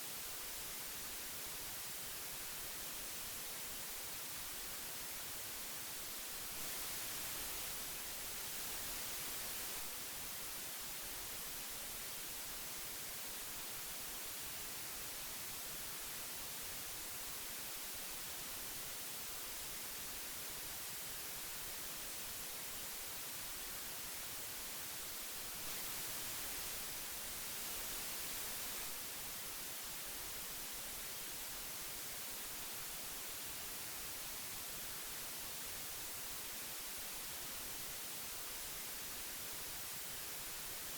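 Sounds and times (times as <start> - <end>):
tape hiss: 0.0 - 40.9.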